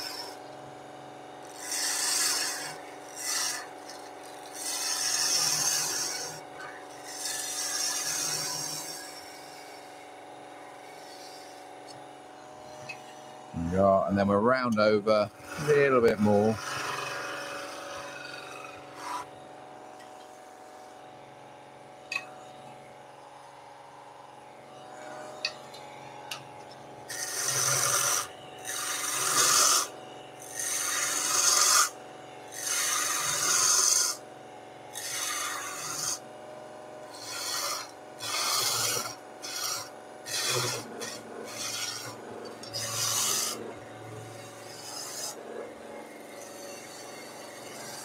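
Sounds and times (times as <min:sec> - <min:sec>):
turning tool cutting wood: 0:00.0 - 0:00.5, 0:01.4 - 0:21.1, 0:25.0 - 0:34.2, 0:34.8 - 0:36.3, 0:36.9 - 0:48.0
wood lathe humming: 0:00.0 - 0:48.0.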